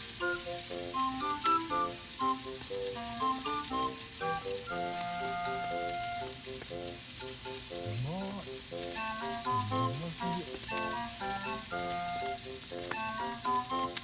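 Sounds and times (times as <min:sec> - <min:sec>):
food sizzling in a pan: 0:00.0 - 0:14.0
plucked background music: 0:00.0 - 0:14.0.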